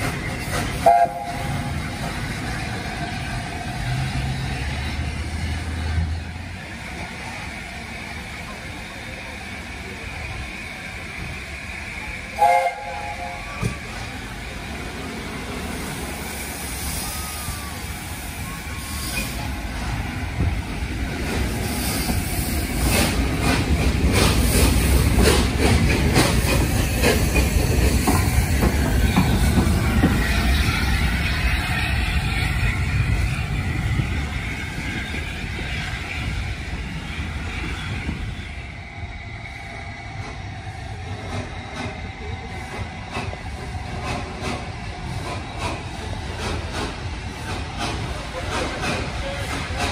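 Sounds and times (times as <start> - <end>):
steam locomotive rumbling past: 0.0 - 49.9
steam hiss: 7.2 - 49.9.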